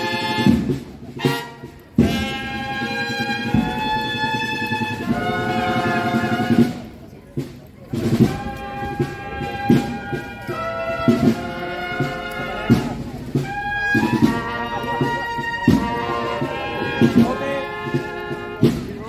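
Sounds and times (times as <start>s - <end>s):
brass band playing a march: 0.0s - 19.0s.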